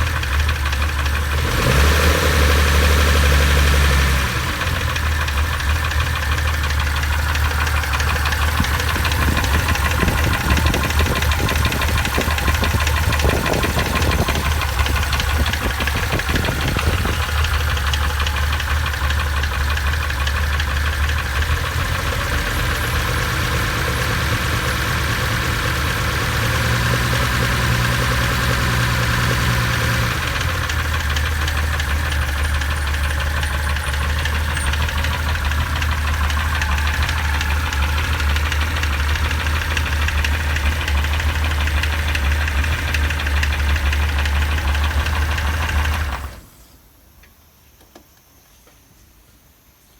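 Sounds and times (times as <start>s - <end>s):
car engine idling and revving: 0.0s - 46.5s.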